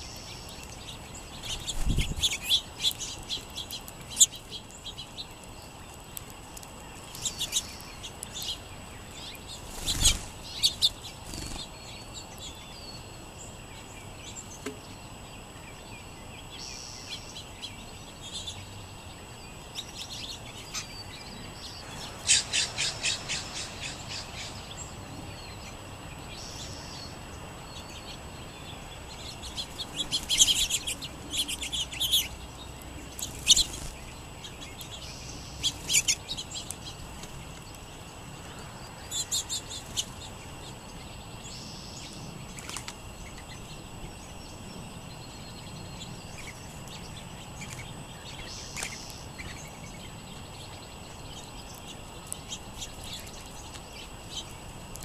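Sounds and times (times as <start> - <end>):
small songbirds chirping: 0.0 - 55.0.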